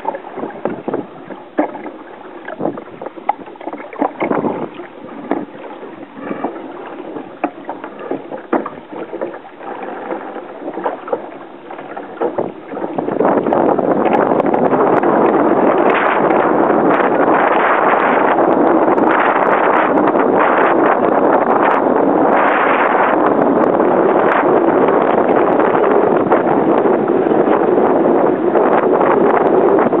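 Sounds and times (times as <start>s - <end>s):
boat knocks and clatter: 0.0s - 30.0s
rush of water and wind: 0.0s - 30.0s
water sloshing against hull: 0.0s - 30.0s.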